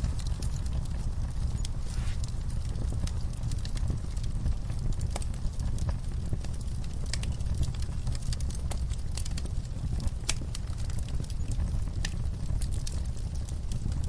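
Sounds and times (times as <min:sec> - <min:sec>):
burning logs snapping and popping: 0:00.0 - 0:14.0
low rumble of flames: 0:00.0 - 0:14.0.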